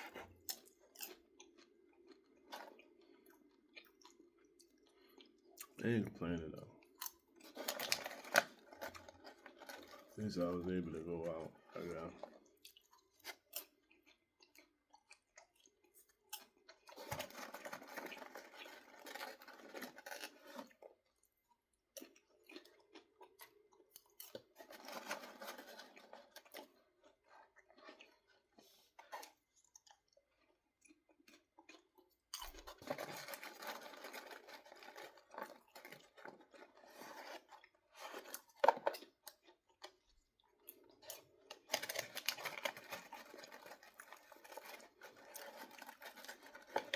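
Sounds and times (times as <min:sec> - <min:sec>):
person chewing popcorn: 0:00.0 - 0:46.9.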